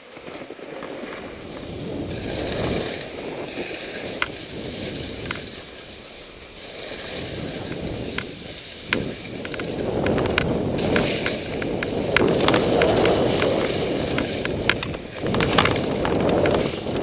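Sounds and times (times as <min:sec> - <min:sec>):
skis hissing through snow: 0:00.0 - 0:17.0
wind on microphone: 0:00.3 - 0:17.0.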